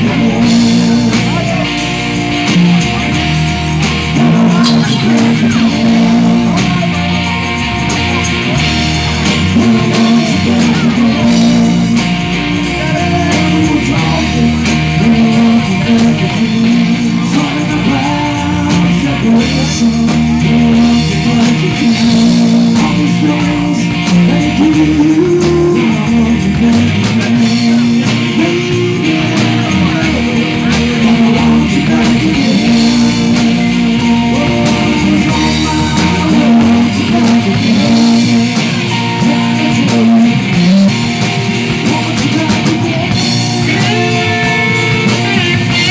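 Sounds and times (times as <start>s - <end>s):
bass line: 0.0s - 45.9s
electric guitar: 0.0s - 45.9s
person singing: 0.0s - 45.9s.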